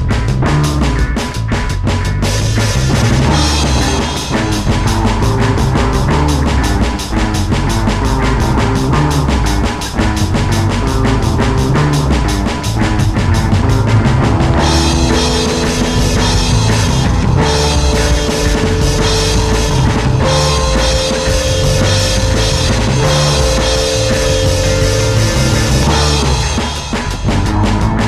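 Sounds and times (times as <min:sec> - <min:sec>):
rock music with drums and guitar: 0:00.0 - 0:28.0.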